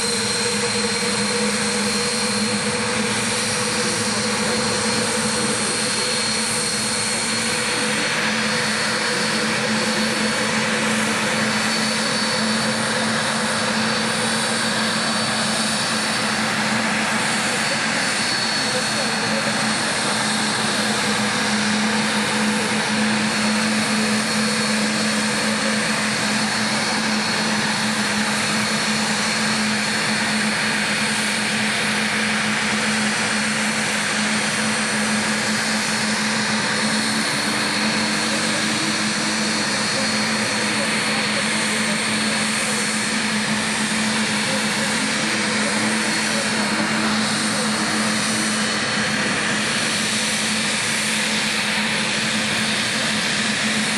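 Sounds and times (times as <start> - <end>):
jet engines running with whine: 0.0 - 53.9.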